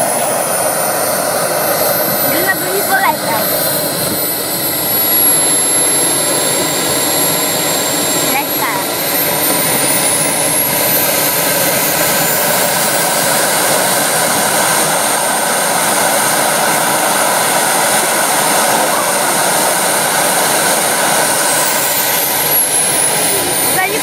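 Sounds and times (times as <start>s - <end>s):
high turbine whine: 0.0s - 24.0s
miniature jet turbine roaring: 0.0s - 24.0s.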